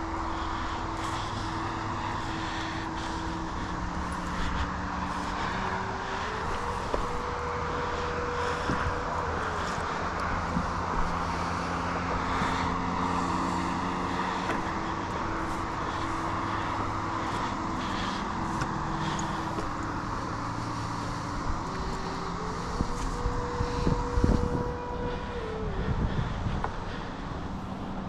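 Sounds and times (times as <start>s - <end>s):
distant engine droning: 0.0s - 28.0s.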